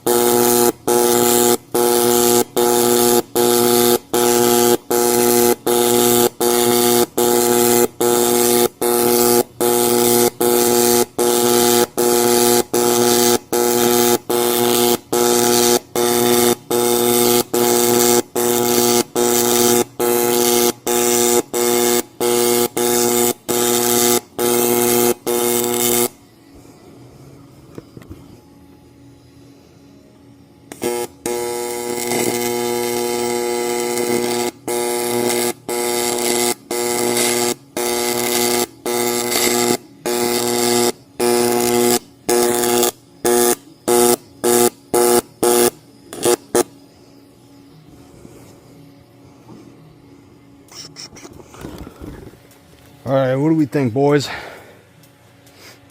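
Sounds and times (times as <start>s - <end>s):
welding arc buzzing and pulsing: 0.0s - 26.6s, 30.6s - 49.2s, 49.9s - 55.9s.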